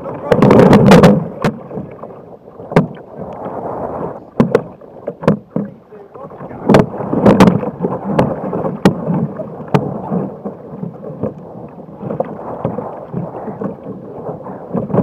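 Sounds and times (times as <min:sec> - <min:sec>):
knocks and thumps on hull: 0:00.0 - 0:15.0
water sloshing and splashing: 0:00.0 - 0:15.0.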